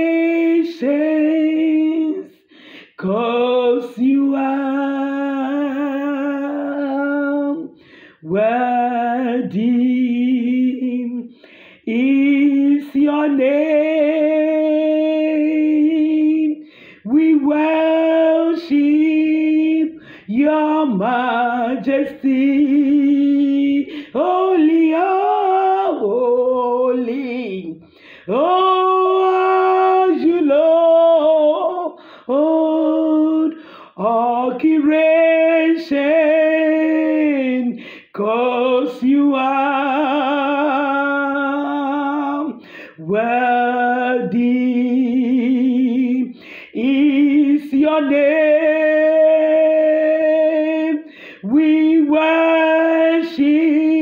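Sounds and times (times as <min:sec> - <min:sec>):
woman singing a slow worship song: 0:00.0 - 0:54.0.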